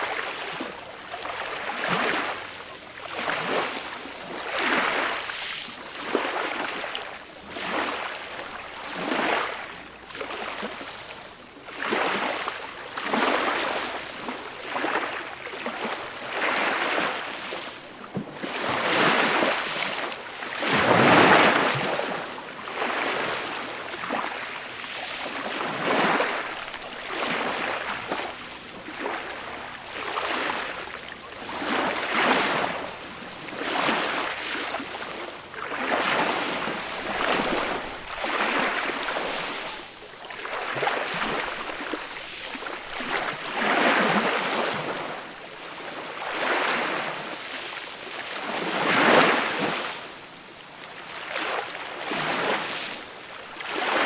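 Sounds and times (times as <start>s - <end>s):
gentle waves washing onto beach: 0.0s - 54.0s.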